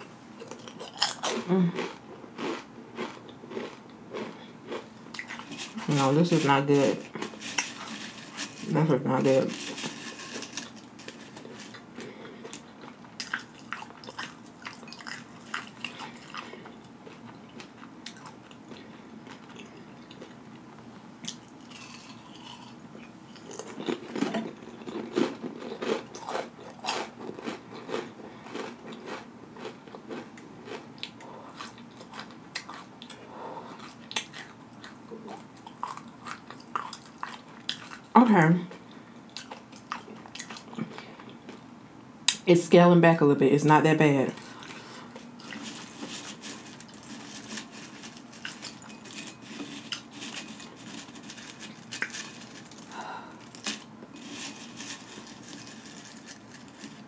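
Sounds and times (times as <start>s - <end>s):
chewing tortilla chips: 0.4s - 38.1s, 38.7s - 41.7s, 44.4s - 57.0s.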